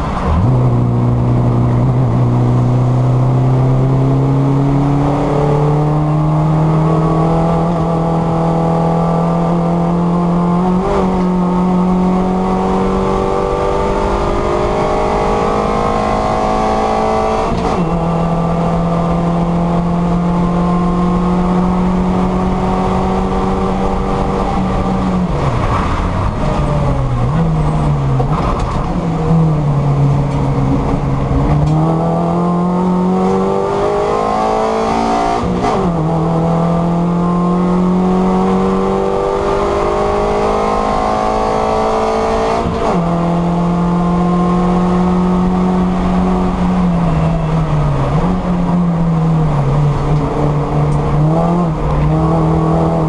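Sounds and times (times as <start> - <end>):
race car engine droning: 0.0 - 53.0.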